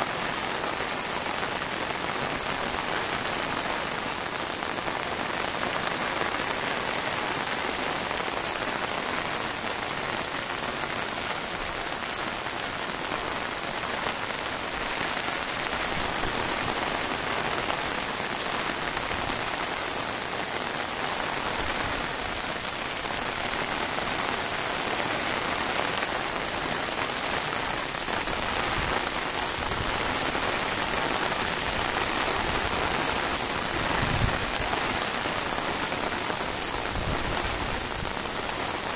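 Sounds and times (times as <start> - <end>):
heavy rain on rooftops: 0.0 - 38.9.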